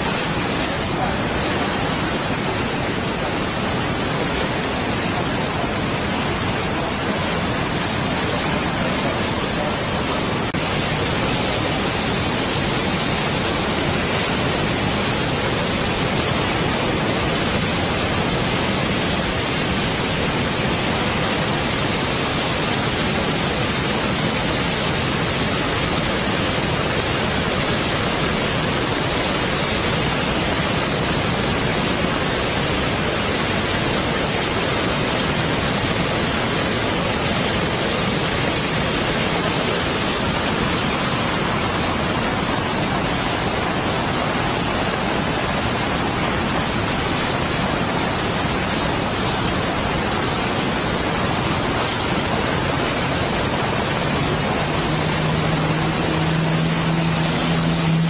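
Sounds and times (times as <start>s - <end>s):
floodwater rushing over a fall: 0.0s - 58.0s.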